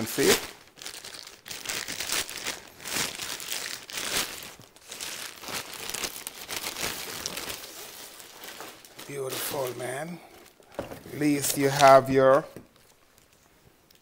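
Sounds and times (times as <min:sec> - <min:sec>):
plastic bag crinkling and rustling: 0:00.0 - 0:14.0.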